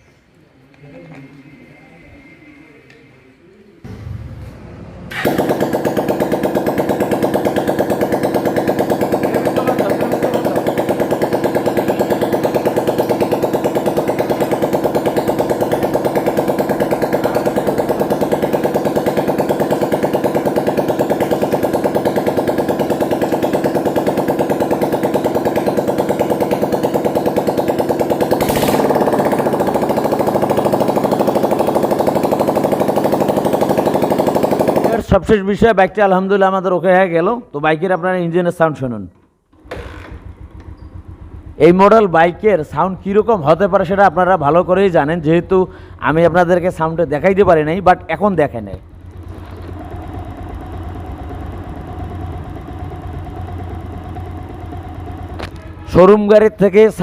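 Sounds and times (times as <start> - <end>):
motorcycle engine idling: 3.9 - 35.1, 39.2 - 57.0.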